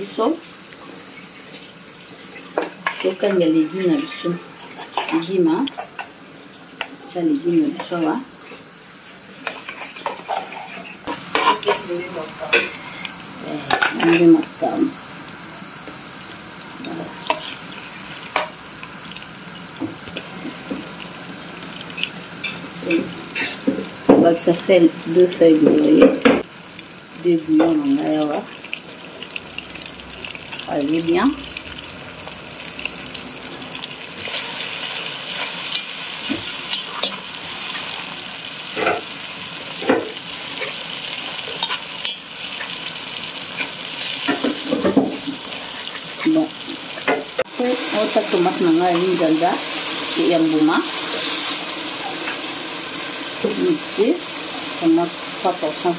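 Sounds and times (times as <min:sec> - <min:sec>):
vegetables sizzling in oil: 0:00.0 - 0:55.9.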